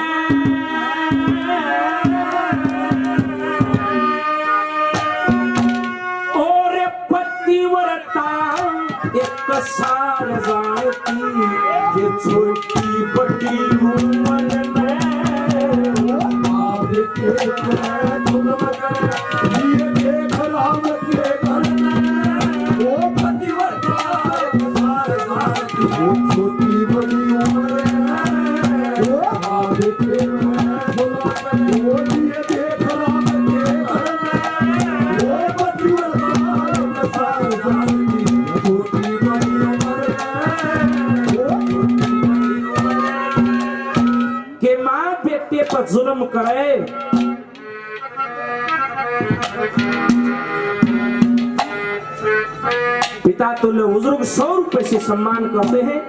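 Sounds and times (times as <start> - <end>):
fast hand-drum strokes: 0.0 - 4.2, 4.9 - 6.1, 8.5 - 44.4, 45.6 - 47.6, 49.2 - 51.8, 53.0 - 56.0
rattling percussion: 0.0 - 4.2, 4.9 - 6.2, 8.5 - 44.6, 45.6 - 56.0
man singing: 0.0 - 47.6, 53.2 - 56.0.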